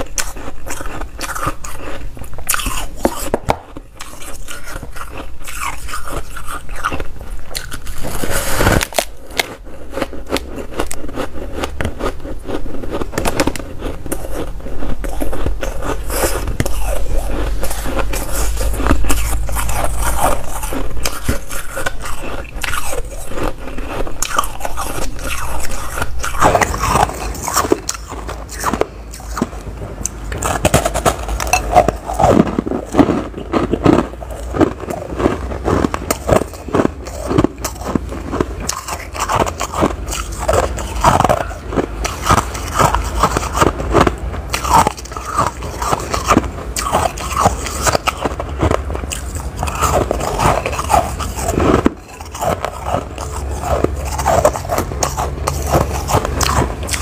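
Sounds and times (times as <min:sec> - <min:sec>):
chewing crunchy ice: 0:00.0 - 0:57.0.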